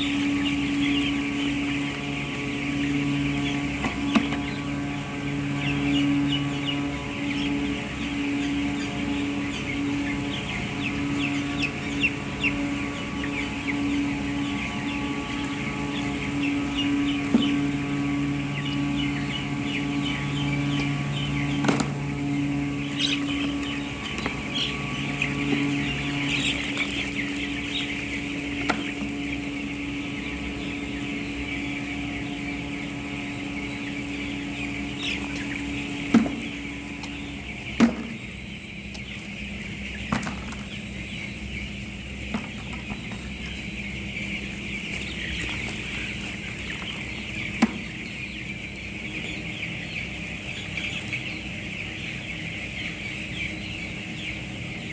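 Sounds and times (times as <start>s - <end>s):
chicks peeping: 0.0s - 54.9s
steady low hum: 0.0s - 54.9s.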